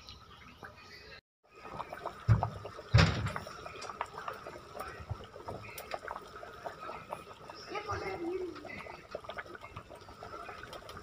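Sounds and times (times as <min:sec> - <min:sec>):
thick mixture simmering with pops: 0:00.0 - 0:11.0.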